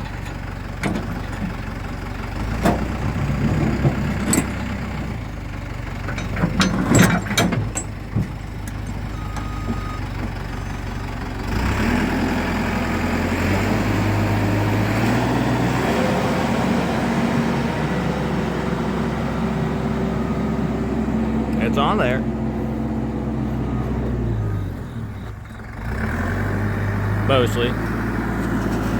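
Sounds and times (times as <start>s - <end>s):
backhoe engine running: 0.0s - 28.9s.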